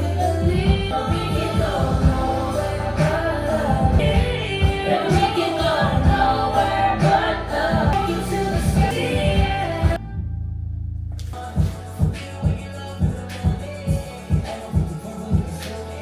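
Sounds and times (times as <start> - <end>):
pop song with singing: 0.0 - 10.1, 11.2 - 16.0.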